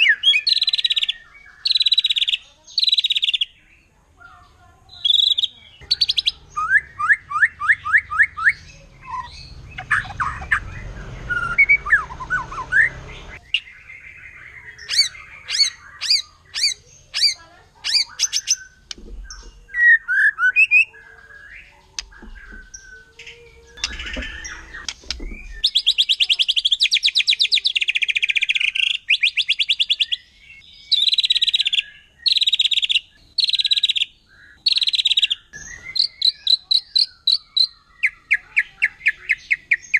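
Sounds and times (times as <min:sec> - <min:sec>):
songbird whistled song: 0:00.0 - 0:39.9
rapid repeated bird notes: 0:04.2 - 0:39.9.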